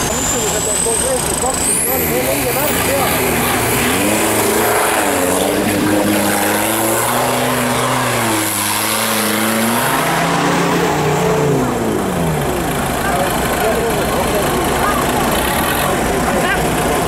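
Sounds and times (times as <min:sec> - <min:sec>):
off-road engines revving in mud: 0:00.0 - 0:17.0.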